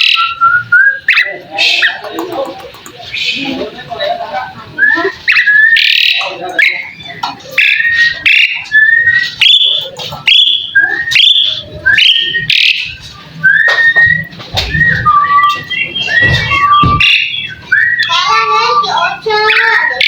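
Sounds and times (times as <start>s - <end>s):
bird whistling song: 0.0s - 2.1s, 4.8s - 20.0s.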